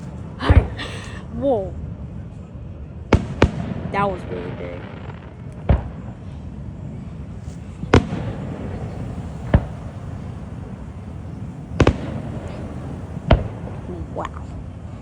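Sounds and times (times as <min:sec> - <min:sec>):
firework booms: 0:00.0 - 0:02.3, 0:02.9 - 0:15.0
steady background hiss: 0:00.0 - 0:15.0.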